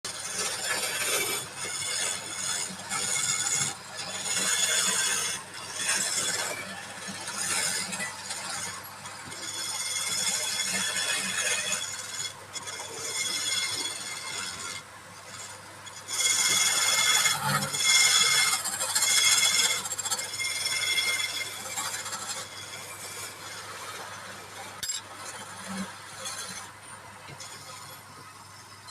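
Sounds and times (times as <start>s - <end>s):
lathe tool scraping squeal: 0.1s - 28.9s.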